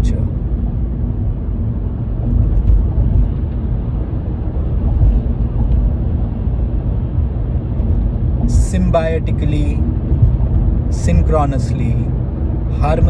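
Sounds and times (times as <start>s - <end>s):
loud low rumbling noise: 0.0s - 13.0s.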